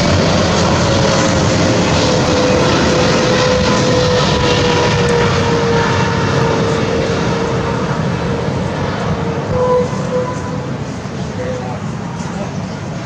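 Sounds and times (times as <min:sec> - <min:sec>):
jet engine rumble and whine: 0:00.0 - 0:13.0.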